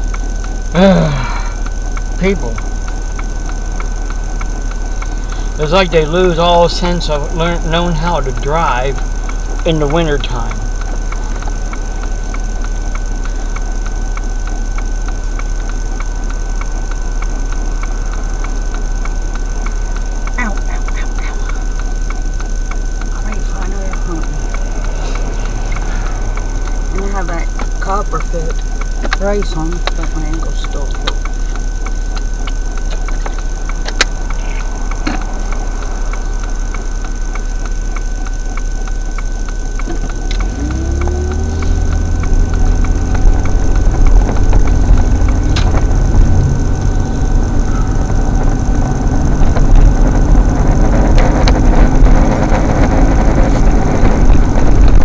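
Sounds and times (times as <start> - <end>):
car engine and road rumble: 0.0 - 55.0
turn signal clicking: 0.0 - 55.0.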